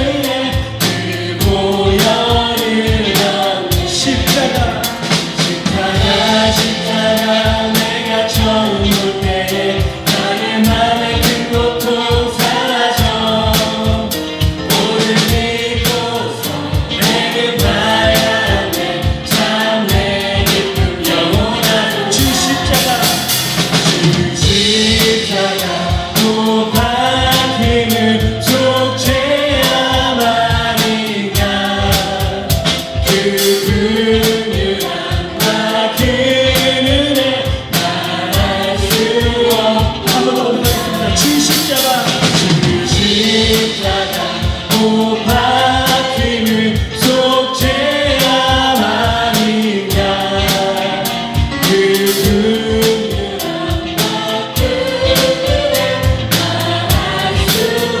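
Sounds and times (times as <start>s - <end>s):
group singing praise song: 0.0s - 58.0s
steady drum beat: 0.0s - 58.0s
worship band playing: 0.0s - 58.0s.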